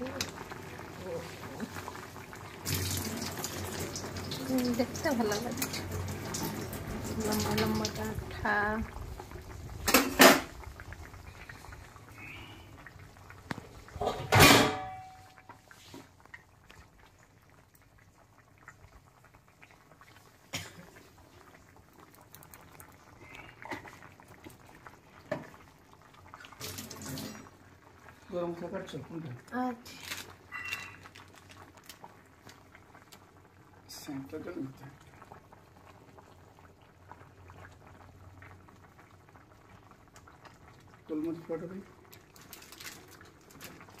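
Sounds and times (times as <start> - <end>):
stew bubbling at a simmer: 0.0 - 44.0.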